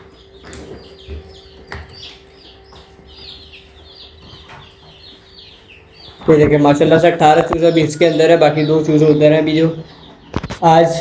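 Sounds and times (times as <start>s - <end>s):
steady low hum: 0.0s - 10.4s
chicks peeping: 0.0s - 11.0s.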